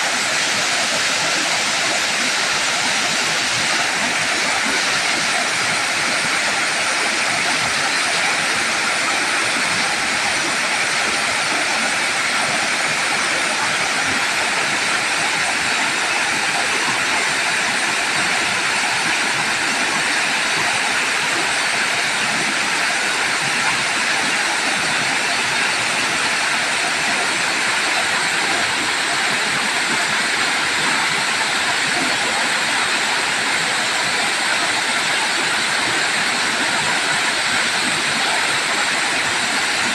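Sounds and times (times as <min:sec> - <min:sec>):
water pouring over rocks: 0:00.1 - 0:39.9.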